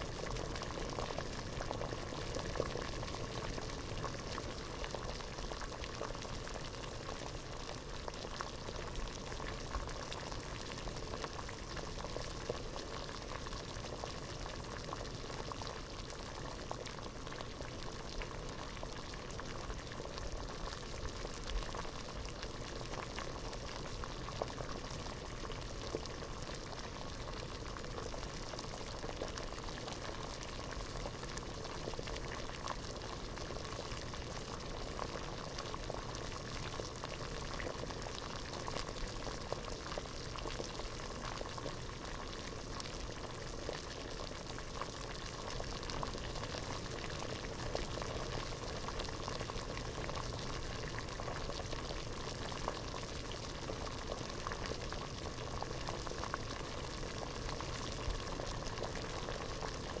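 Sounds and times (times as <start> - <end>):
water boiling in a pot: 0.0 - 60.0.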